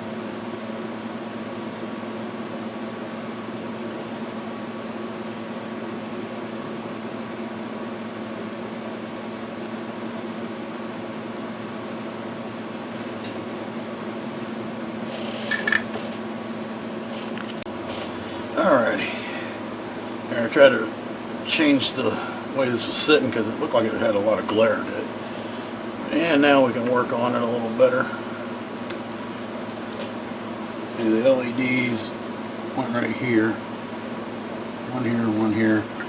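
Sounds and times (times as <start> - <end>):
machine hum: 0.0 - 36.0.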